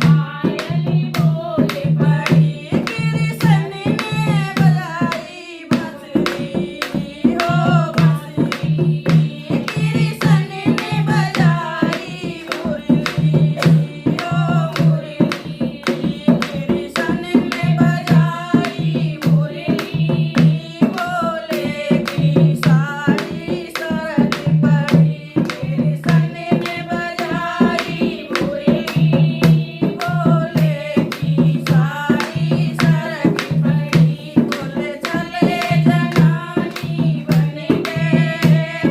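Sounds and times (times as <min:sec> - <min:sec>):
drums fast beat: 0:00.0 - 0:38.9.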